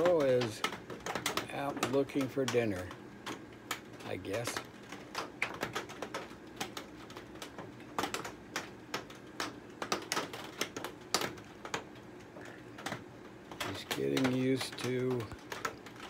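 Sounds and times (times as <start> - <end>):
raindrops tapping: 0.0 - 16.0.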